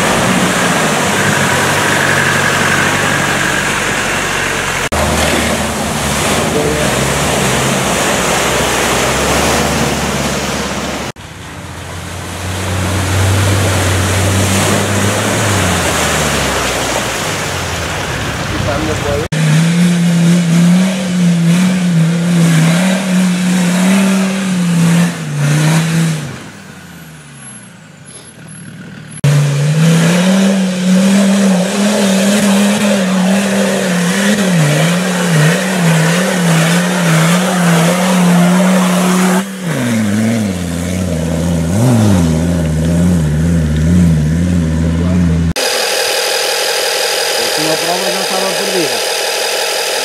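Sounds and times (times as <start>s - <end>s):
off-road engines at high revs: 0.0s - 50.0s.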